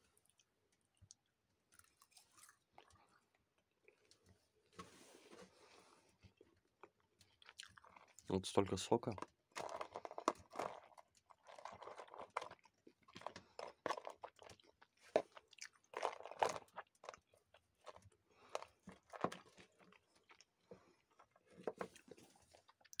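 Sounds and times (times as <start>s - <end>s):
chewing crunches: 0.2s - 4.3s, 6.3s - 8.4s, 9.1s - 23.0s.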